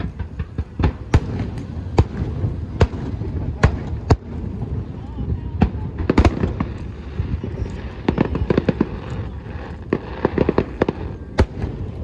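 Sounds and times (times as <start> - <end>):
firework shell bursts and booms: 0.0 - 12.0.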